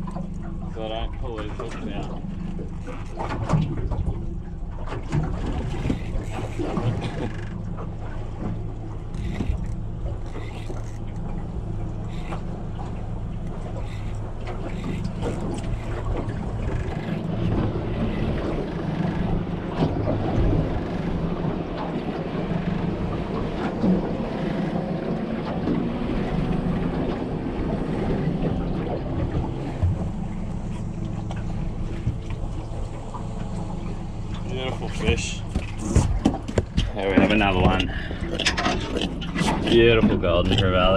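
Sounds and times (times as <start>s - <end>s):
boat engine humming: 0.0s - 40.9s
knocks and splashes: 0.0s - 40.9s.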